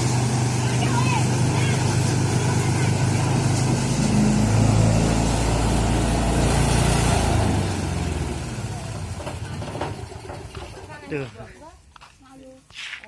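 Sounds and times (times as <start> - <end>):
thresher engine running: 0.0 - 11.4.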